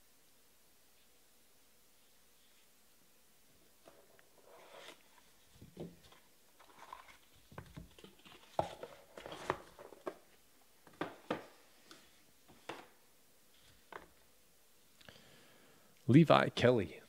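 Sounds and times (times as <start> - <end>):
soft rustling of cards: 0.9 - 15.0.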